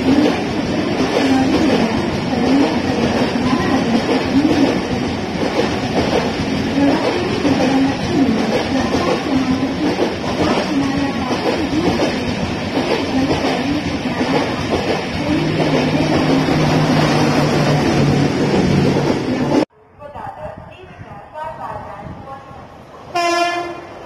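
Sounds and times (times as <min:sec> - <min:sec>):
train wheels clattering on rails: 0:00.0 - 0:19.6.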